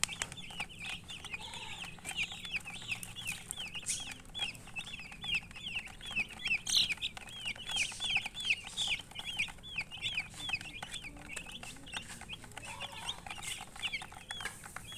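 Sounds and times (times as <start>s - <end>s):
chicks peeping: 0.0s - 14.9s.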